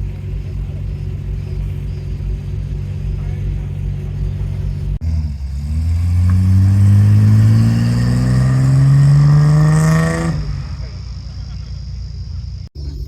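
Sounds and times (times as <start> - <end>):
car engine accelerating: 0.0 - 13.0
car engine idling: 0.0 - 13.0.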